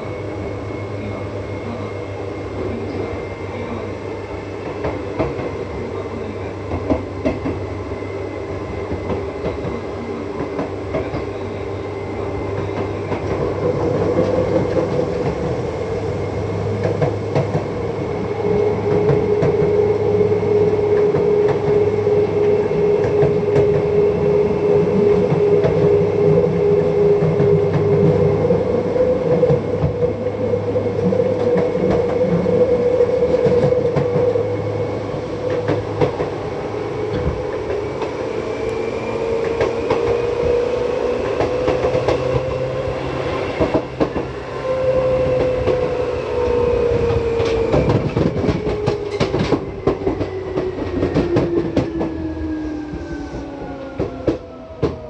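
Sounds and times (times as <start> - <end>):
train wheels rumbling on rail: 0.0 - 55.0
train motor whine: 6.7 - 55.0.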